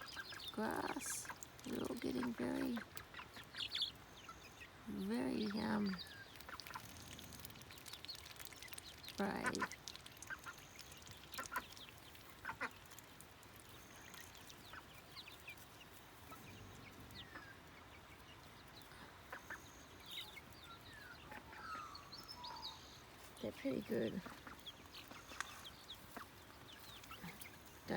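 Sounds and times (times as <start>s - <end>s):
chicks peeping: 0.0s - 27.9s.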